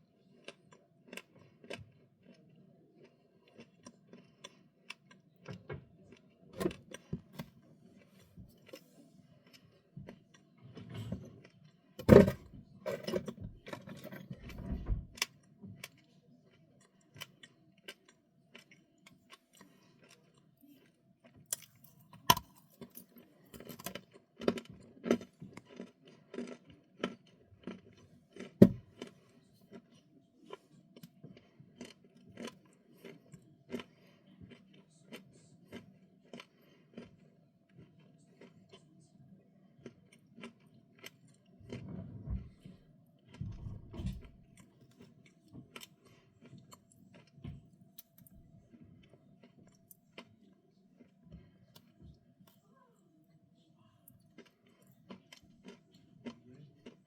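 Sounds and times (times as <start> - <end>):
crunchy snacks being chewed: 0.1 - 12.1, 15.3 - 39.1, 39.7 - 41.8, 43.3 - 52.0, 54.1 - 57.0.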